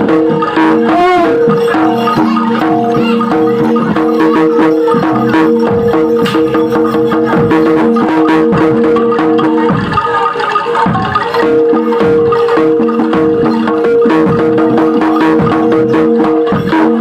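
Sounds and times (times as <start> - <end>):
drum strokes: 0.0 - 17.0
gong-chime notes: 0.0 - 17.0
wavering tone: 0.0 - 17.0.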